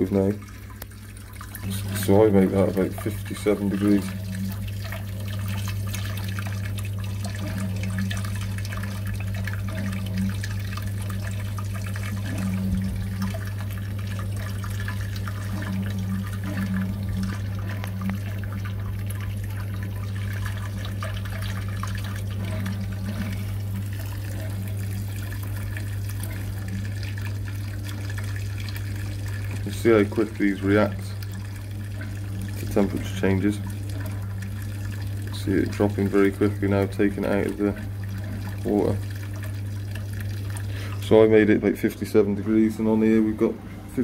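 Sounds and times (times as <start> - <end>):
low steady hum: 0.0 - 44.0
water pouring into a kettle: 0.0 - 44.0.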